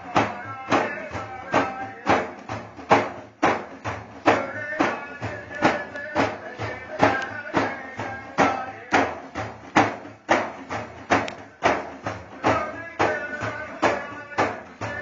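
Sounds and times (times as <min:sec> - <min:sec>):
frame drums beating: 0:00.0 - 0:15.0.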